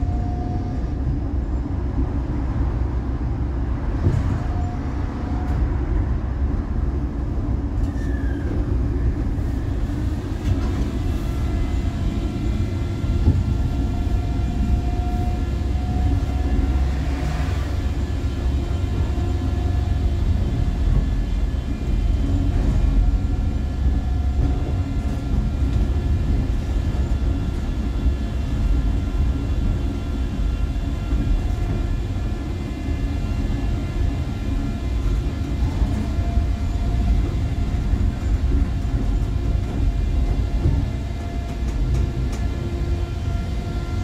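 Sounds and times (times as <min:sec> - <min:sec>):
tram wheels rumbling on rails: 0:00.0 - 0:44.0.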